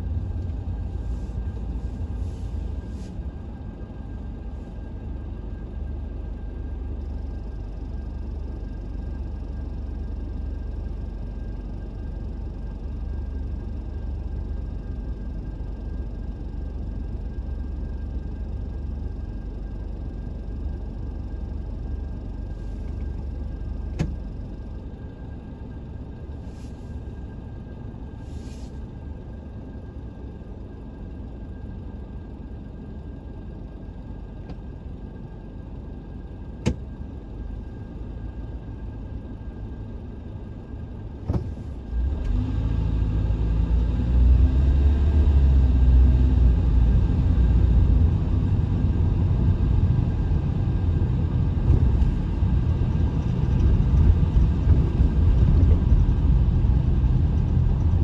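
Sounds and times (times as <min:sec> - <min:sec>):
motor vehicle rumble: 0:00.0 - 0:58.0.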